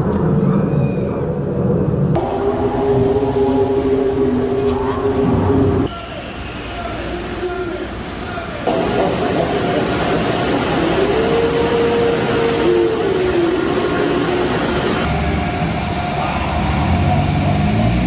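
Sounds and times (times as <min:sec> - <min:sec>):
car wash water spray and blowers: 0:02.2 - 0:18.0.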